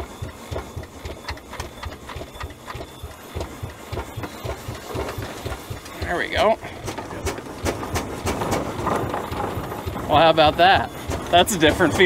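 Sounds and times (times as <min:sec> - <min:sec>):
steam engine beats: 0:00.0 - 0:12.0.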